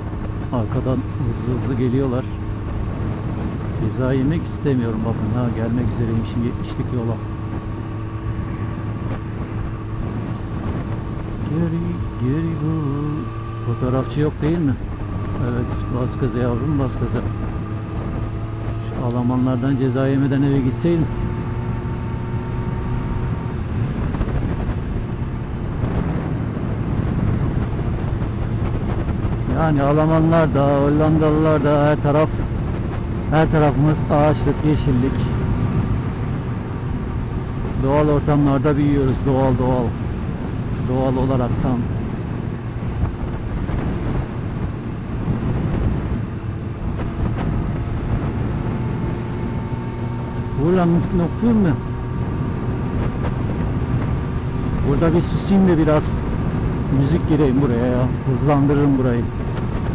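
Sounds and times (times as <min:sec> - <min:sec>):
motorcycle engine at road speed: 0:00.0 - 0:59.9
wind rushing over microphone: 0:00.0 - 0:59.9.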